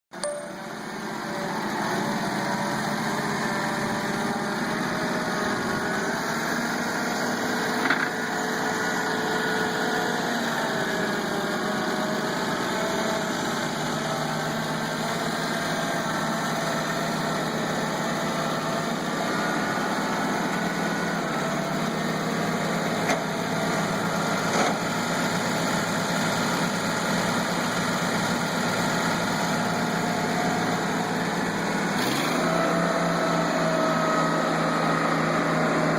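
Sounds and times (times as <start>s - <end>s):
tractor engine running: 0.2s - 35.9s.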